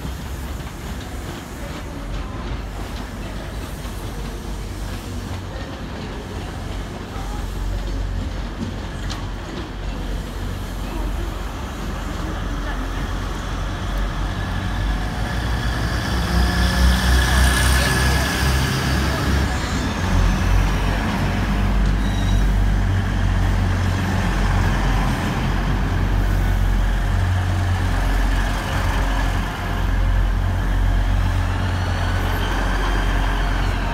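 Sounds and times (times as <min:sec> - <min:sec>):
passenger train rumbling: 0:00.0 - 0:33.9.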